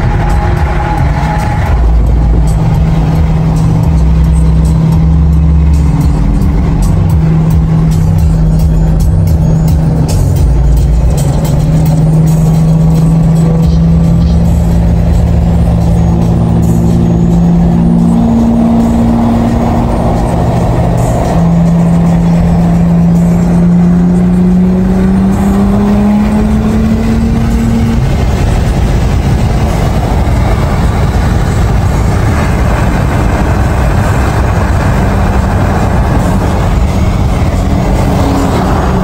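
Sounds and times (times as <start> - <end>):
car engine accelerating: 0.0 - 39.0
wind and tyre roar: 0.0 - 39.0.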